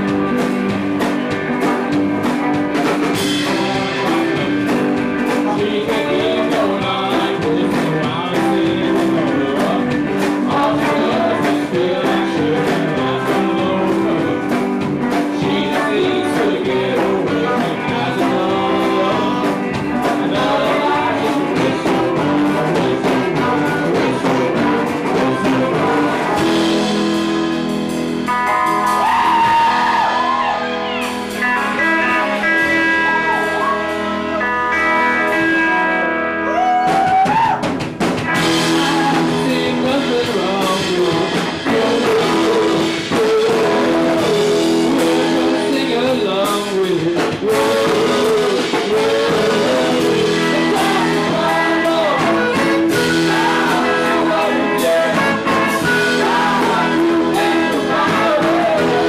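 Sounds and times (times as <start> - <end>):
drums: 0.0 - 59.0
electric guitar: 0.0 - 59.0
person singing: 3.0 - 59.0.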